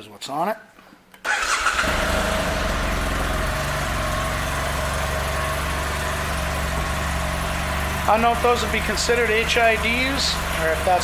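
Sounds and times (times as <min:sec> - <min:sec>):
motorcycle engine starting and idling: 0:01.2 - 0:11.0.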